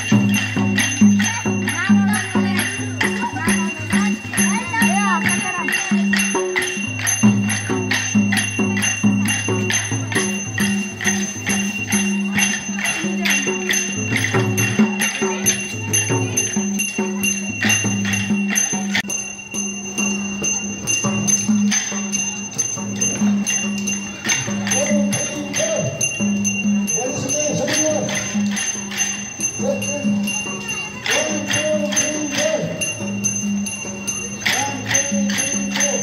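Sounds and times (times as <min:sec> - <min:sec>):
metallic ringing: 0:00.0 - 0:36.0.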